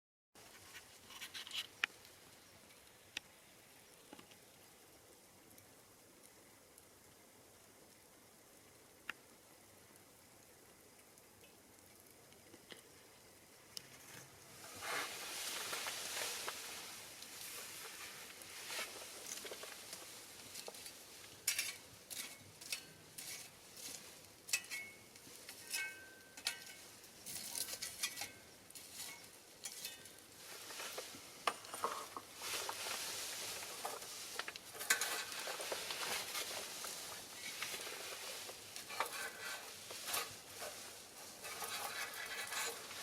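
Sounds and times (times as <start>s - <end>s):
fire crackling and popping: 0.4s - 43.0s
steady hiss: 0.4s - 43.0s.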